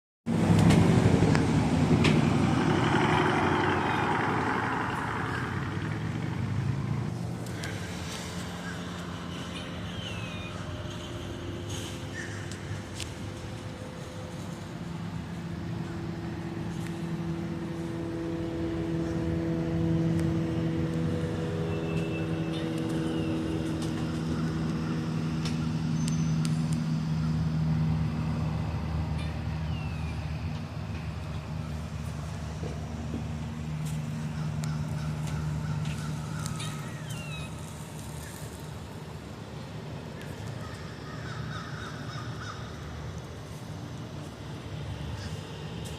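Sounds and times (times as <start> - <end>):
low motor hum: 0.3 - 45.9.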